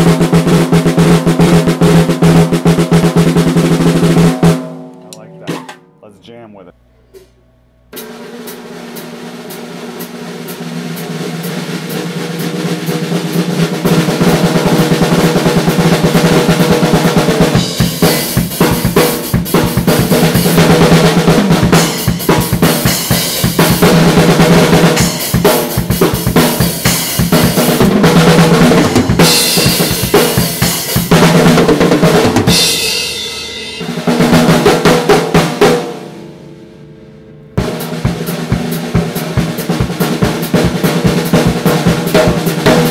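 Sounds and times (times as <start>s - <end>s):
drum kit playing: 0.0s - 7.3s, 7.9s - 42.9s.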